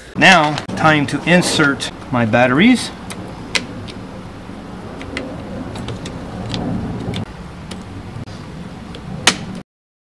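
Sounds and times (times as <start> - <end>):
low hum: 0.0 - 9.6.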